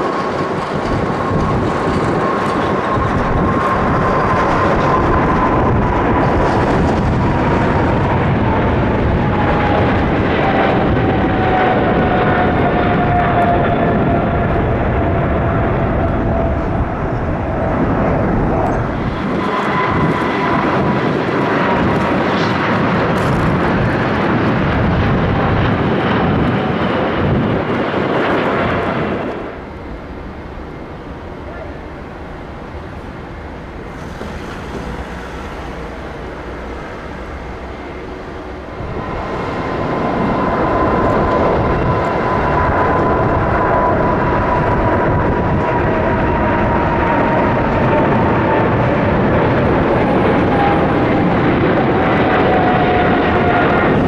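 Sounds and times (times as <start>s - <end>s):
jet airliner passing by: 0.0s - 54.0s.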